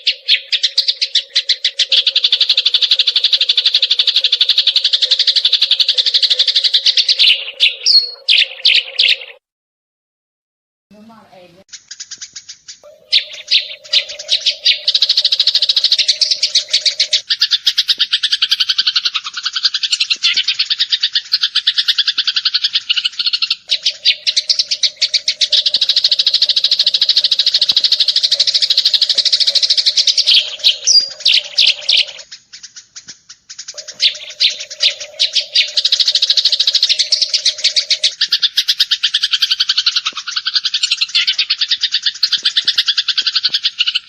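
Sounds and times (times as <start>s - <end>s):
sparrows chirping: 0.0s - 9.4s, 11.0s - 44.0s.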